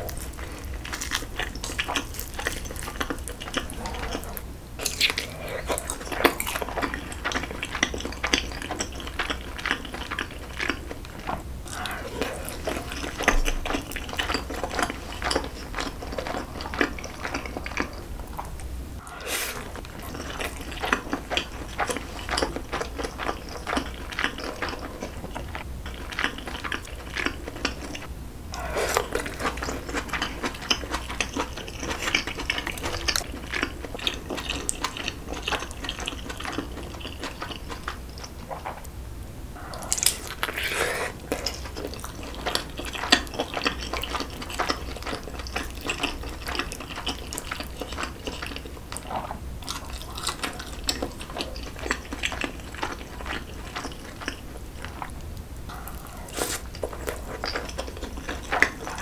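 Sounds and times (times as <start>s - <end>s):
wet chewing and mouth smacking: 0.0s - 38.9s, 39.6s - 59.0s.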